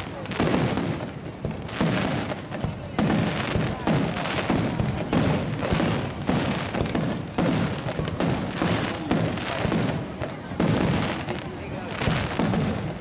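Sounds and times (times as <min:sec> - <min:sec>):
fireworks booming: 0:00.0 - 0:13.0
fireworks crackling: 0:00.0 - 0:13.0.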